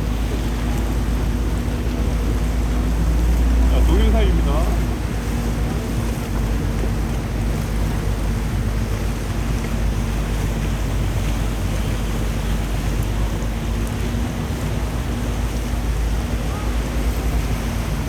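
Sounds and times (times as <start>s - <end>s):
boat engine humming: 0.0s - 18.0s
water rushing past hull: 0.0s - 18.0s.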